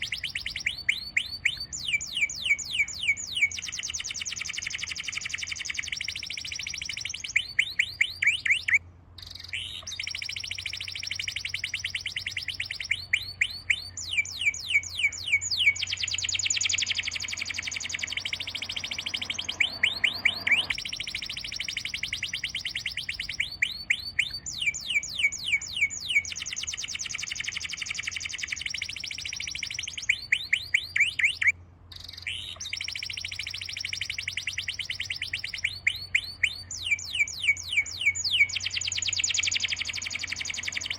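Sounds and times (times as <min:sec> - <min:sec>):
bird singing fast trills: 0:00.0 - 0:40.9.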